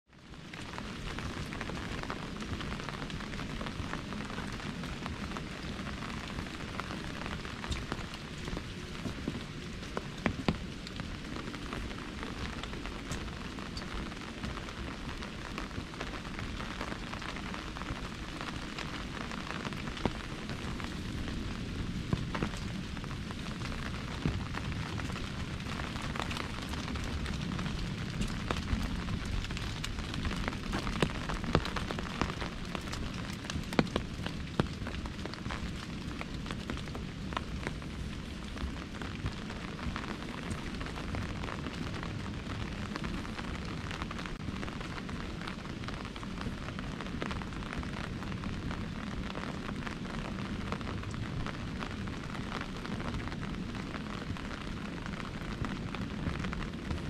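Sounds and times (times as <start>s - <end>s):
rain on an umbrella: 0.0s - 57.0s.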